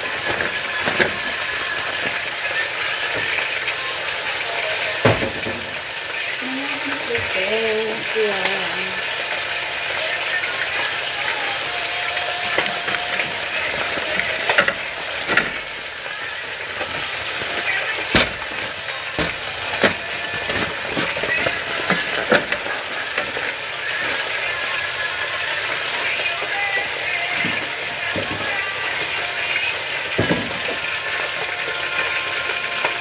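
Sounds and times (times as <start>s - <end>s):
foil and paper crackling: 0.0s - 33.0s.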